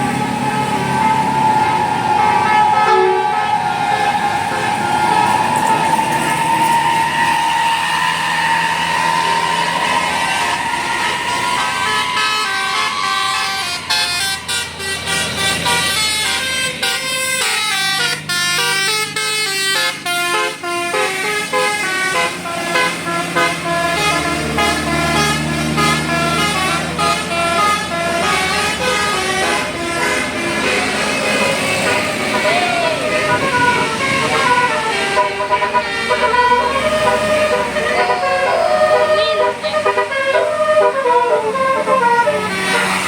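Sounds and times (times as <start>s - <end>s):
musical air horn melody: 0.0s - 43.0s.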